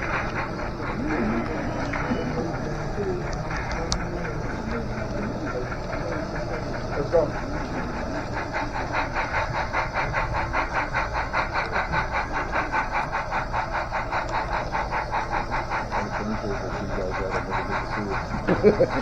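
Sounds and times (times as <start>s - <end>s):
model steam locomotive chuffing: 0.0s - 19.0s.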